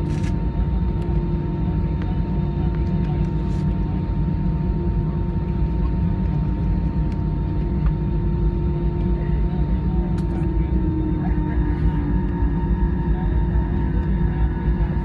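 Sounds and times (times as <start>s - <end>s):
faint steady whine: 0.0s - 15.0s
jet engines idling rumble: 0.0s - 15.0s.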